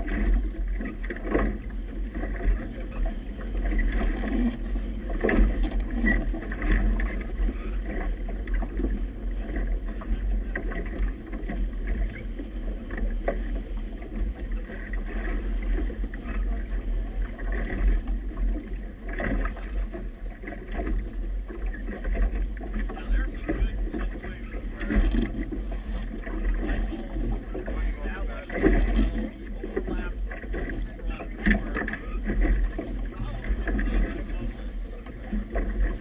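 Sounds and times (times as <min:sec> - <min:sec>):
low rumble: 0:00.0 - 0:36.0
water slapping against boat hull: 0:00.0 - 0:36.0.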